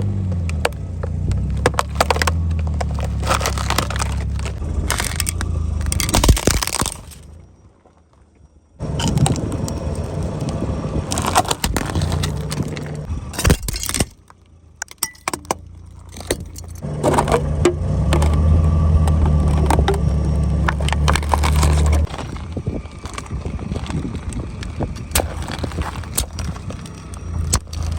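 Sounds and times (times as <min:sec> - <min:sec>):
tyres crushing crunchy objects: 0:00.0 - 0:07.4, 0:08.8 - 0:27.9
car engine hum: 0:00.0 - 0:27.9.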